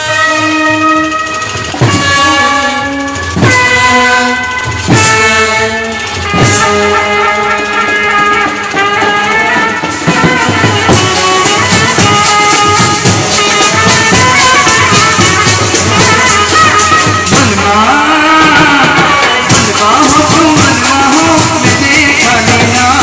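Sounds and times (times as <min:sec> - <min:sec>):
brass horns holding long notes: 0:00.0 - 0:23.0.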